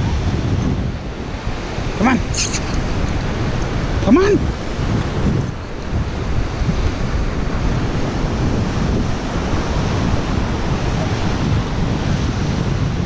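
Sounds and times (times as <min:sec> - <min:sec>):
surf breaking on beach: 0:00.0 - 0:13.0
wind noise on microphone: 0:00.0 - 0:13.0.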